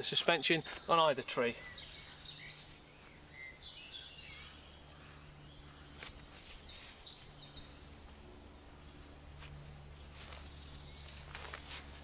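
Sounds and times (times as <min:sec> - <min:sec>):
low steady hum: 0:00.0 - 0:12.0
woodland birdsong: 0:00.0 - 0:12.0.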